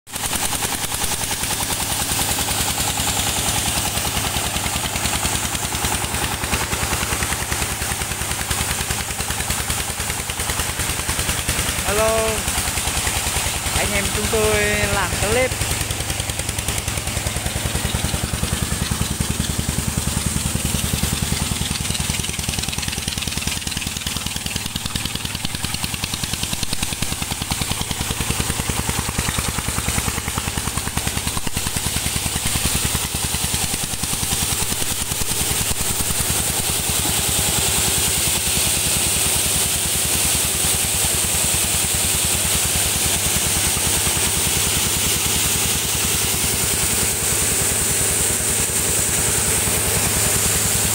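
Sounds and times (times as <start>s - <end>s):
engine running at fast beat: 0.1s - 50.9s.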